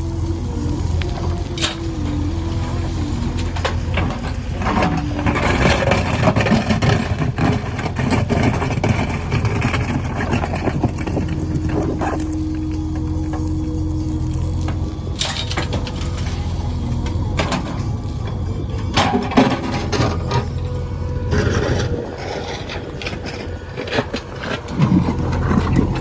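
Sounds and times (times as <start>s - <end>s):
diesel engine running: 0.0s - 26.0s
knocks and clatter: 1.1s - 26.0s.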